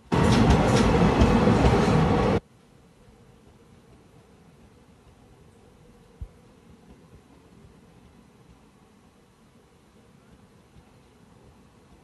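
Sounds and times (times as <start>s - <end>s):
low rumble of trains: 0.0s - 12.0s.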